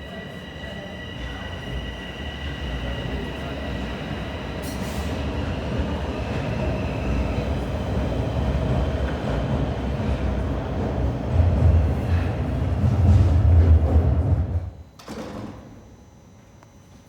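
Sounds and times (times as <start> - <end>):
subway train running on track: 0.0 - 15.0.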